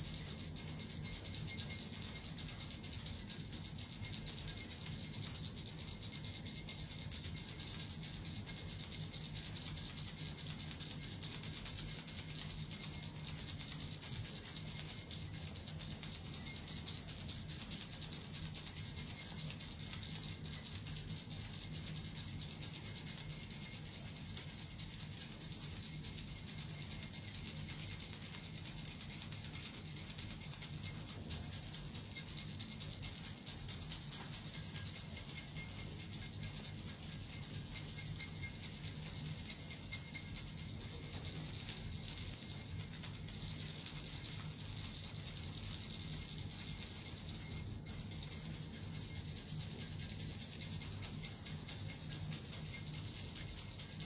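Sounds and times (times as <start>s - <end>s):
small bells jingling: 0.0s - 54.0s.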